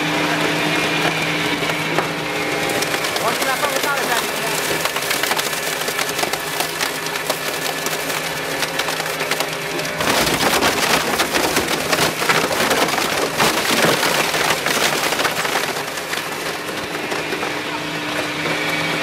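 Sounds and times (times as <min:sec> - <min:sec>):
foam crackling in shredder: 0:00.0 - 0:19.0
machine humming: 0:00.0 - 0:19.0.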